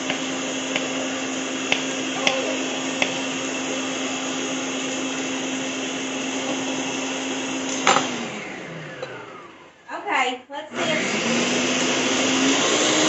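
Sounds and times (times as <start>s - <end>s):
blender running: 0.0s - 9.9s, 10.7s - 13.0s.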